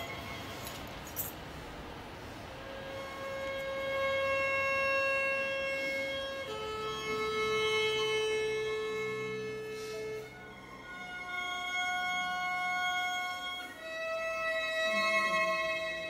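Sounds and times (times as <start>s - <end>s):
solo violin long notes: 0.0s - 0.9s, 2.2s - 16.0s.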